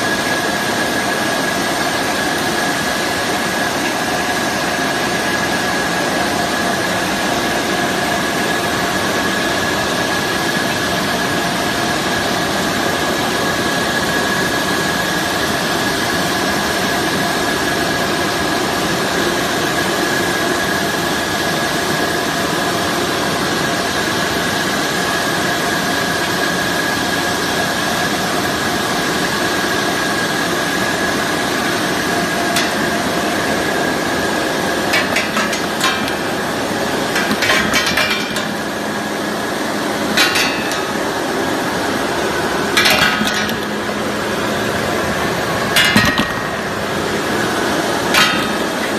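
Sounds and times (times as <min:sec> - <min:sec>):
washing machine humming: 0:00.0 - 0:48.9.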